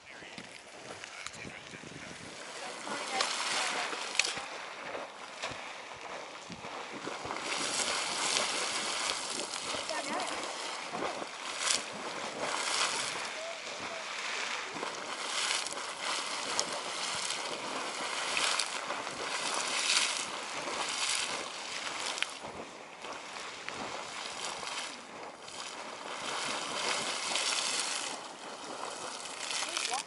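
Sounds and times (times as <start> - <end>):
geyser water splashing and rushing: 0.5 - 30.0.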